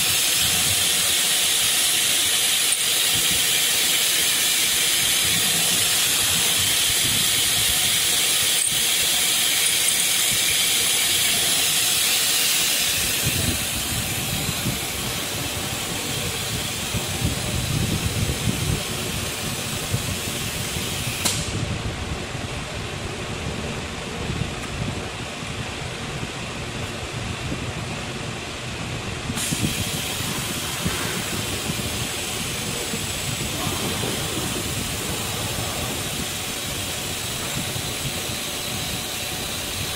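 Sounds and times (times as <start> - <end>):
spindle and coolant hiss: 0.0 - 21.6, 29.3 - 39.9
uneven machine running noise: 0.0 - 39.9.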